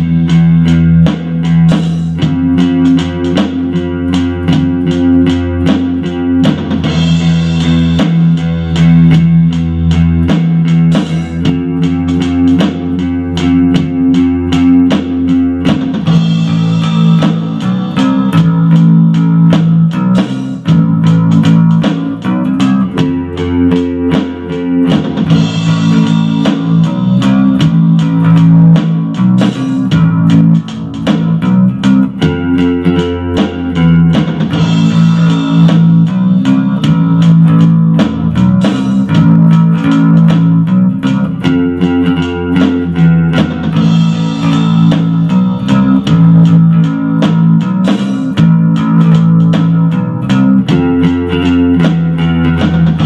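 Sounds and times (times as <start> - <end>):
drums: 0.0 - 53.0
electric bass guitar line: 0.0 - 53.0
instrumental rock music: 0.0 - 53.0.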